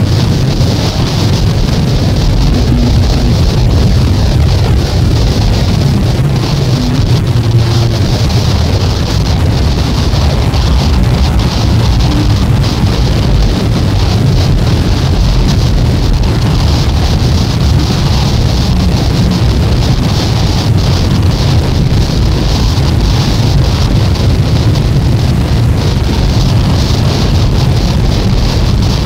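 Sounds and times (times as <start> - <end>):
noise music low rumble: 0.0 - 29.0.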